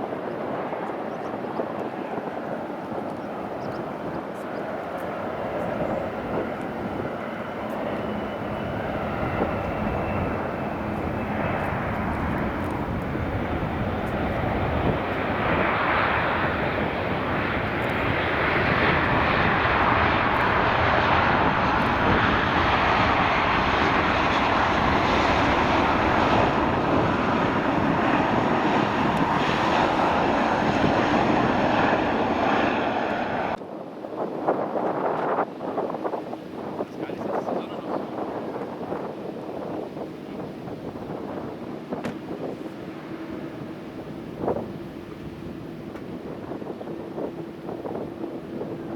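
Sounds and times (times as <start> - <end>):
jet airliner engines passing: 0.0 - 48.9.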